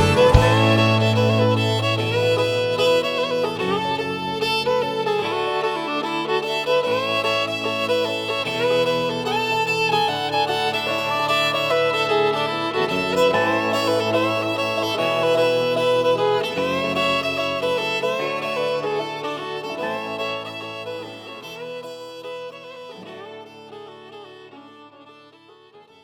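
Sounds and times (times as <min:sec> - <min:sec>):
bass and guitar accompaniment: 0:00.0 - 0:21.3
fiddle playing a sliding melody: 0:00.0 - 0:26.0.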